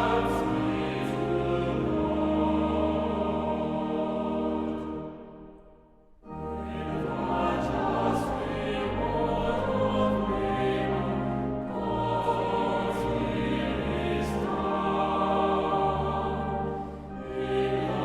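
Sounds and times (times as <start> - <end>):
choir singing a hymn: 0.0 - 18.0.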